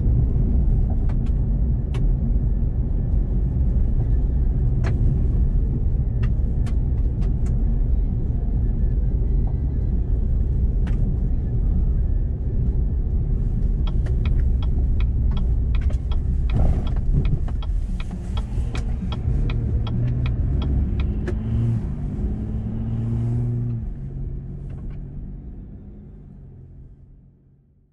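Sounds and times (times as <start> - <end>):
pickup engine and road rumble: 0.0 - 27.9.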